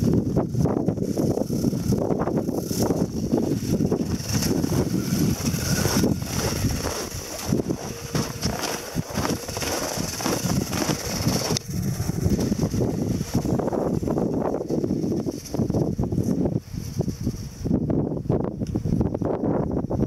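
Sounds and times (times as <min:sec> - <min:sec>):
wind buffeting microphone: 0:00.0 - 0:20.0
rc car motor whining: 0:00.7 - 0:17.5.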